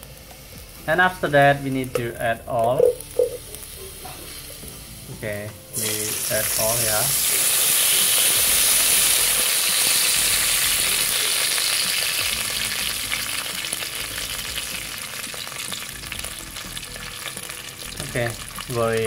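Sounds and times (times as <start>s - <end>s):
oil sizzling in a hot pot: 0.0s - 19.0s.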